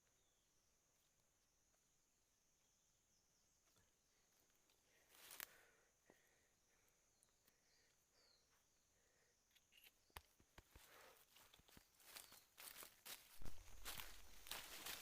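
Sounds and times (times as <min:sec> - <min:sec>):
faint high insect drone: 0:00.0 - 0:15.0.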